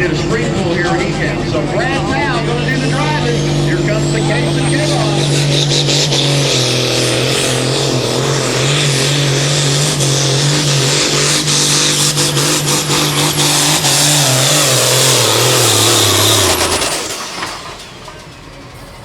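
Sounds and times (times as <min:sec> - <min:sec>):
turbo whine: 0:00.0 - 0:18.3
tractor diesel engine at full throttle: 0:00.0 - 0:19.0.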